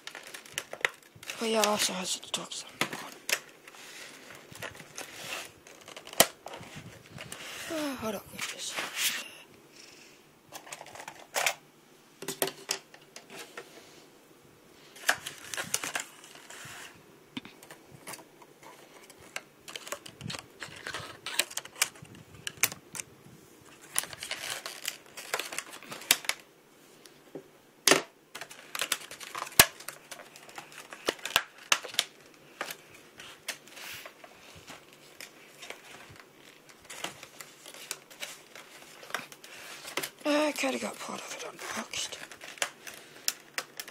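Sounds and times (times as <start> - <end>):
plastic blister packaging crackling: 0.0 - 9.5, 14.9 - 26.5, 27.9 - 43.9.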